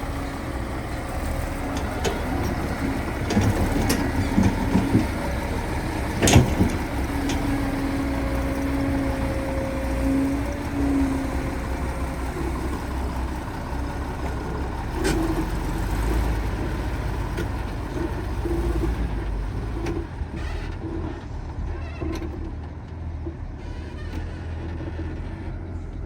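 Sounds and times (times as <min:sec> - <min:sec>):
excavator engine rumbling: 0:00.0 - 0:26.0.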